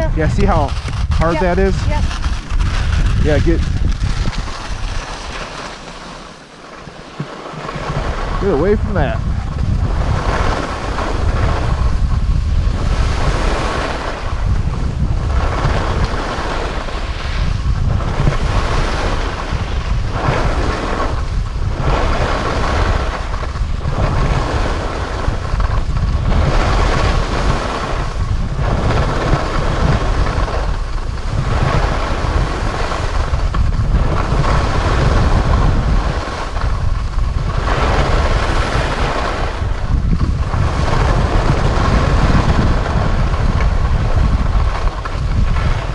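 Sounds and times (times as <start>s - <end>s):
skis sliding over snow: 0.0s - 45.9s
wind buffeting microphone: 0.0s - 45.9s.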